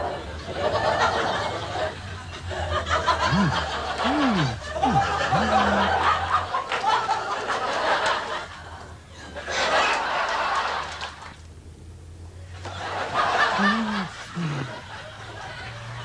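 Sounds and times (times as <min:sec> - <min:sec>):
crowd laughing: 0:00.0 - 0:11.4, 0:12.6 - 0:16.0.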